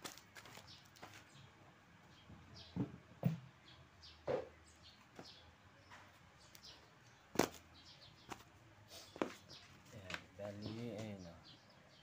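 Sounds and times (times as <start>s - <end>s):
small birds chirping faintly: 0.0s - 12.0s.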